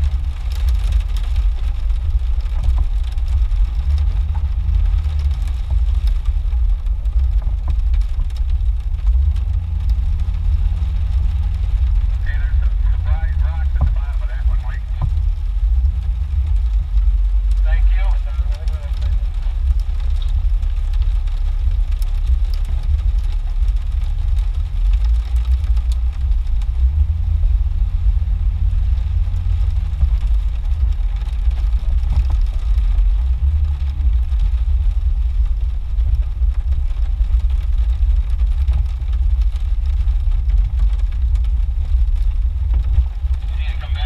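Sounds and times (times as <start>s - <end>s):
vehicle engine rumbling: 0.0s - 44.0s.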